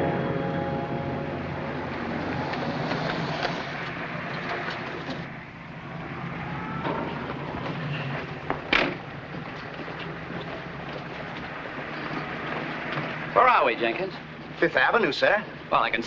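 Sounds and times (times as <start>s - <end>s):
car pulling up: 0.0s - 16.0s
city street traffic: 0.0s - 16.0s.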